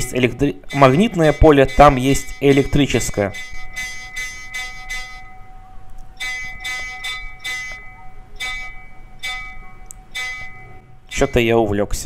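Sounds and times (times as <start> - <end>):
ringing bell tones: 0.0 - 11.9
temple bells struck: 0.7 - 5.6, 6.2 - 11.6.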